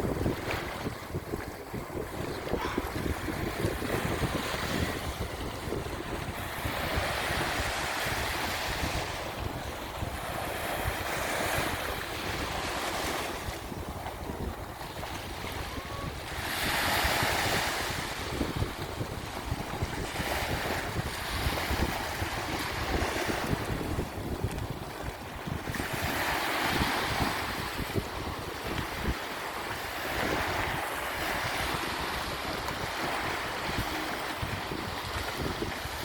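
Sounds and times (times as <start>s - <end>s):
waves breaking on a beach: 0.0s - 36.0s
wind buffeting microphone: 0.0s - 36.0s.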